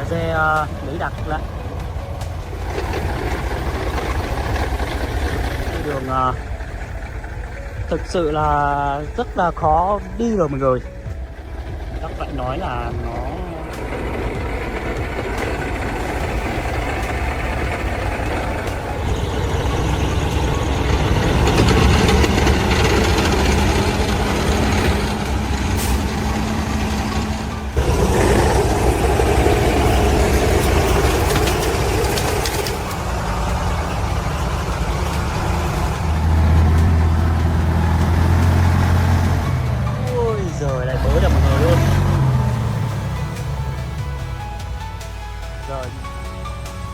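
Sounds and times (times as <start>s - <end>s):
truck engine labouring: 0.0s - 46.9s.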